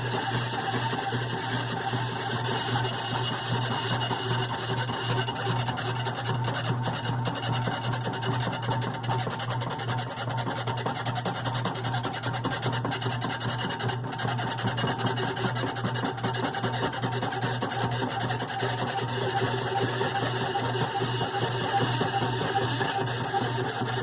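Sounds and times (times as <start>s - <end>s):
washing machine rough mechanical noise: 0.0s - 24.0s.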